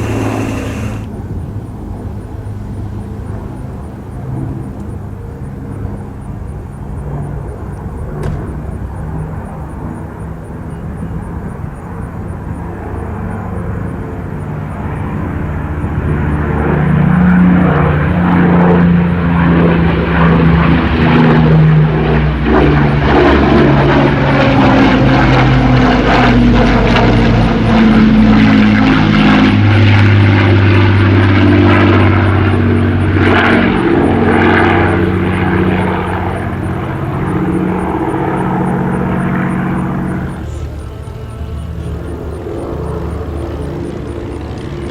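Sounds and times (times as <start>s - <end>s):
propeller plane flying past: 0.0s - 44.9s.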